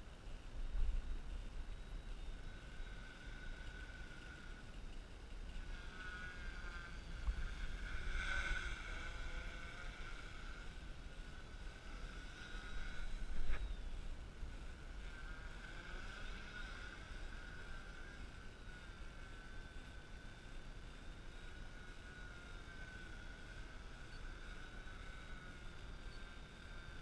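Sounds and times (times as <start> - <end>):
quadcopter propellers whining: 1.2 - 27.0.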